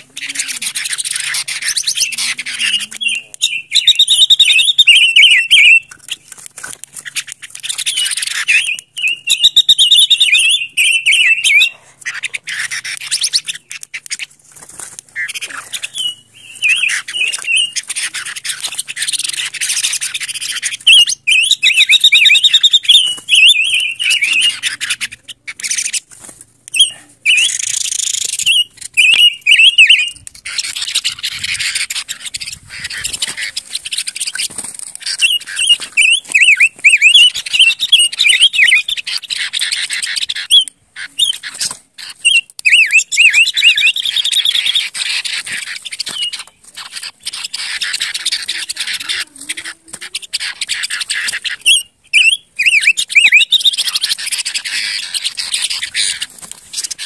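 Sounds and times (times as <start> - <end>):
bird singing warbled phrases: 0.0 - 57.0.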